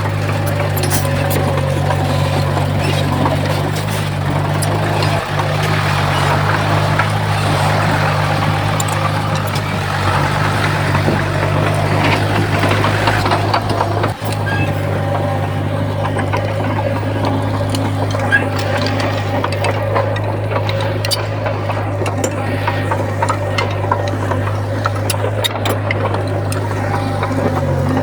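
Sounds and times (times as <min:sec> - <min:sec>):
bulldozer diesel engine running: 0:00.0 - 0:28.0
rattling clatter: 0:00.0 - 0:28.0
scattered clicks: 0:00.0 - 0:28.0.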